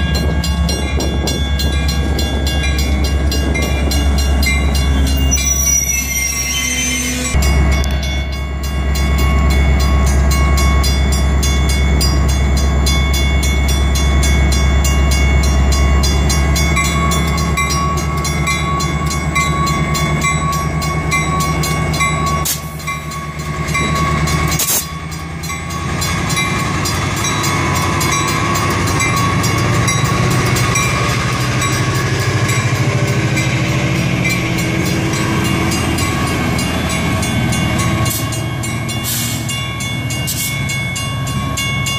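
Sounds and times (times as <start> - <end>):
diesel locomotive engine droning: 0.0 - 41.9
locomotive rolling past on rails: 0.0 - 41.9.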